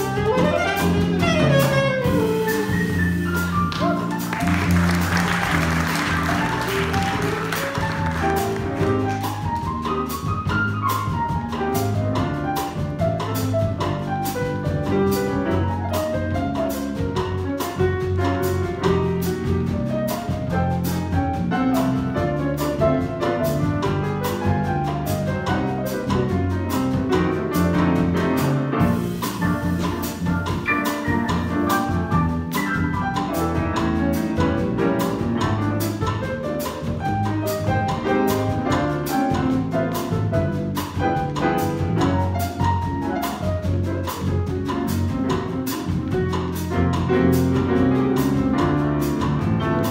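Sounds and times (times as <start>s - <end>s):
electric bass walking: 0.0s - 49.9s
piano: 0.0s - 49.9s.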